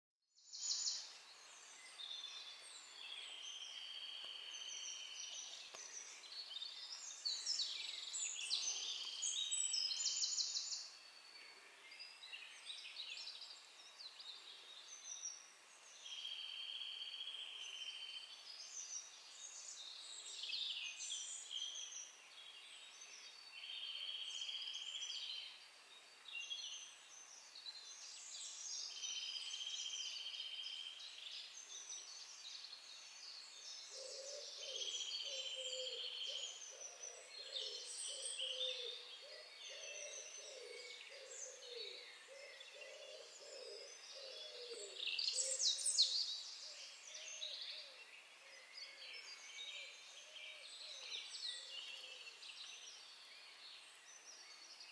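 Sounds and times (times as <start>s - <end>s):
songbirds singing: 0.3s - 54.9s.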